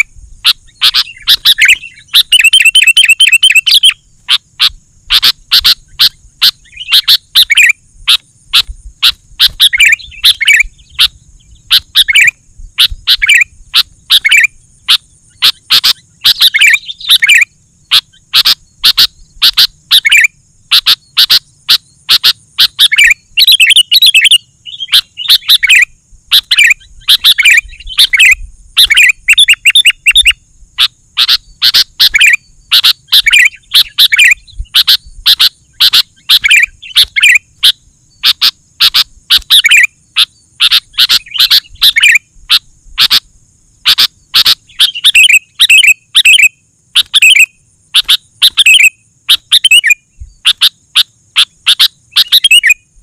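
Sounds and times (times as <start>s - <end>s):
bird chattering calls: 0.0s - 52.9s.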